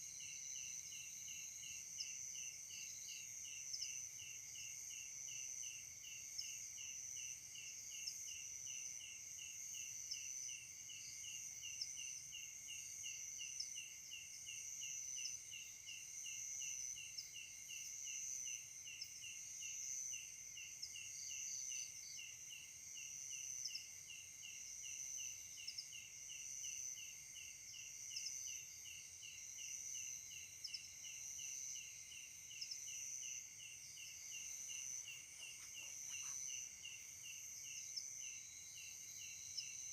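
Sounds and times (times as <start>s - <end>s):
crickets chirping: 0.0s - 39.9s
high-pitched insect trill: 0.1s - 39.9s.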